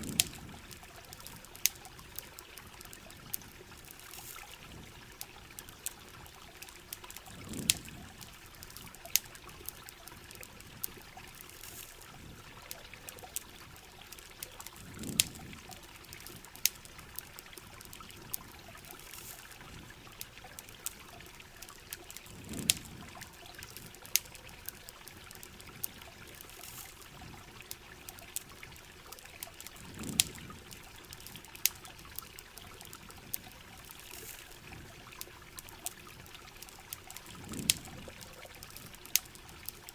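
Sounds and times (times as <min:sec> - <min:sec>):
campfire crackling: 0:00.0 - 0:39.9
steady rain: 0:00.0 - 0:39.9
water trickling: 0:00.0 - 0:39.9.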